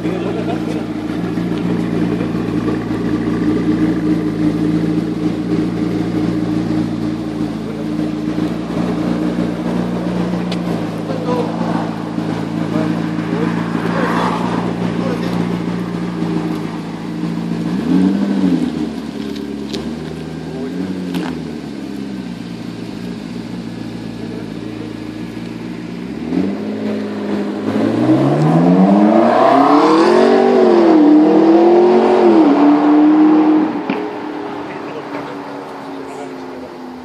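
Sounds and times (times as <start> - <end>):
car accelerating through gears: 0.0 - 21.6, 25.6 - 36.3
car engine idling and revving: 0.0 - 37.0.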